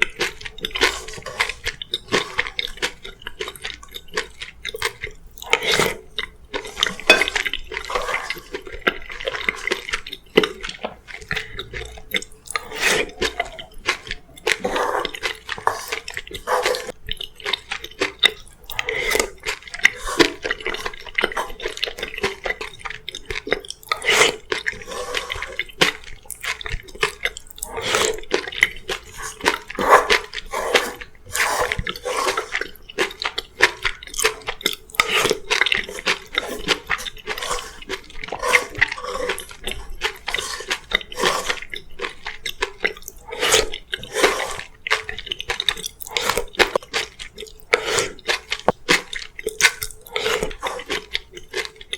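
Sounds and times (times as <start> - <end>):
wet chewing and biting: 0.0 - 51.9.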